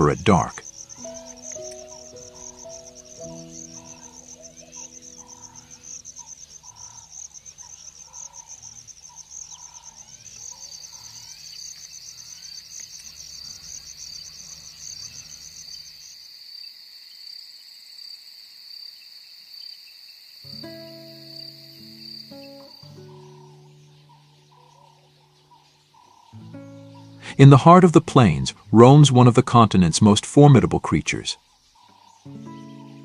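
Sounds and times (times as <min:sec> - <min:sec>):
crickets trilling: 0:00.0 - 0:29.9, 0:30.6 - 0:33.0.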